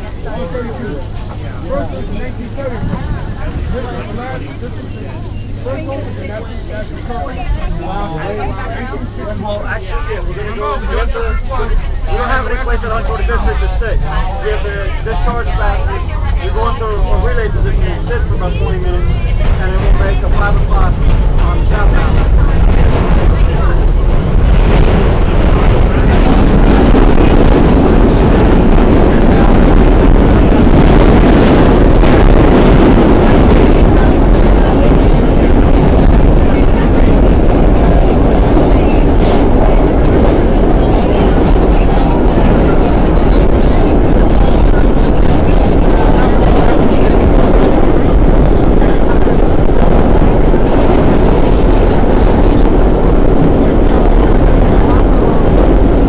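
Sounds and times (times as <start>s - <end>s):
subway car wheels rumbling on rails: 0.0s - 56.0s.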